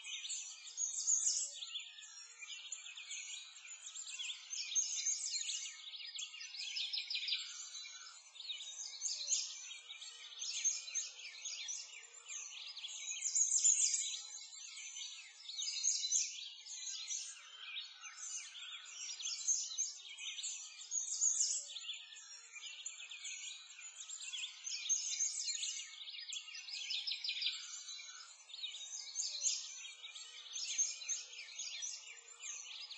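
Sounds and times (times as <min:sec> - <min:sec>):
chorus of small birds chirping: 0:00.0 - 0:32.9.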